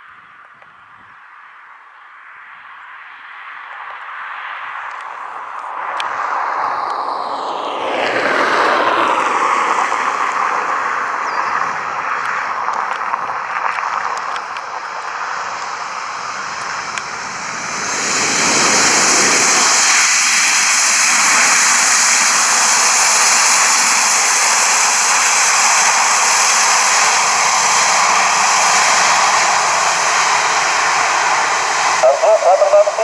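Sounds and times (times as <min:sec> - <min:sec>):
airliner engines rushing: 0:00.0 - 0:33.0.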